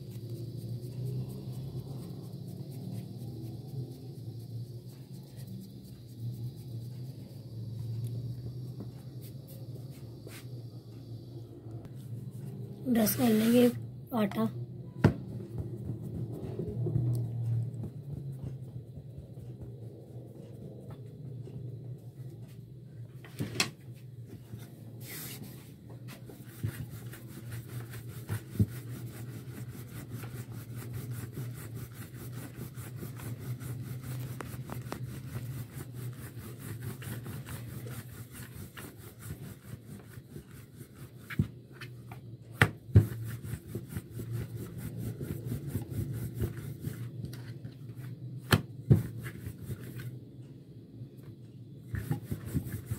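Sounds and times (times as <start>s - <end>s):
rolling pin rubbing on dough: 0.0s - 11.3s, 11.9s - 14.5s, 15.2s - 22.6s, 24.3s - 50.3s, 51.8s - 52.9s
steady low hum: 0.0s - 52.9s.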